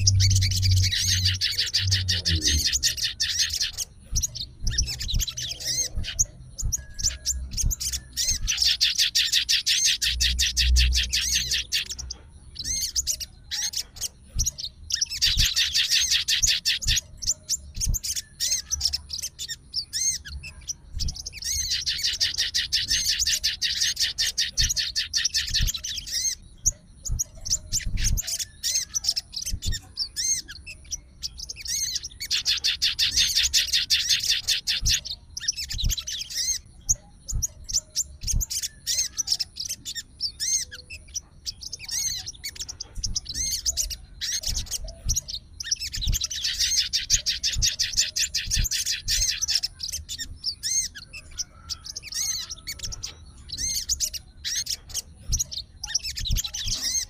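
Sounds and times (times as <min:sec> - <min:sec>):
bird chirps and twitters: 0:00.0 - 0:57.0
bird singing fast trills: 0:00.0 - 0:57.0.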